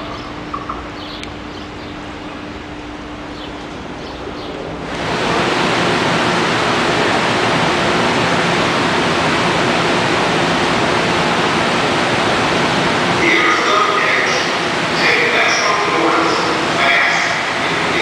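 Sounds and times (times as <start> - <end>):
train rushing on rails: 2.8 - 18.0.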